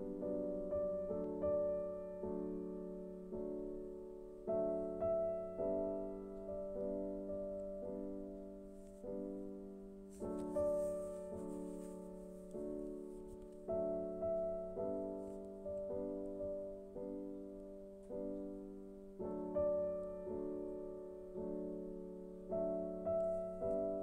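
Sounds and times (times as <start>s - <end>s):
soft piano chords: 0.0s - 24.0s.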